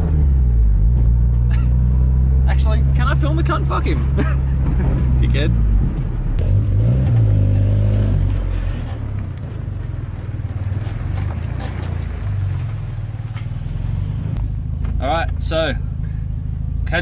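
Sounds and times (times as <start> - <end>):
car engine accelerating: 0.0 - 17.0
road noise: 0.0 - 17.0.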